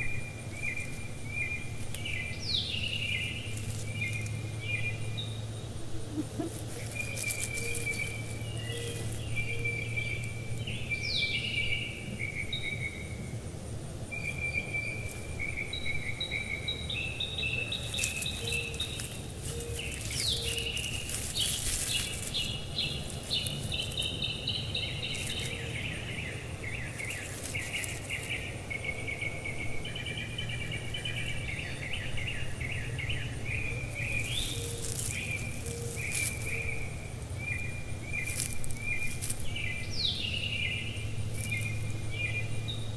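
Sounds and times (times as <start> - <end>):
insects and birds chirping: 0.0 - 42.9.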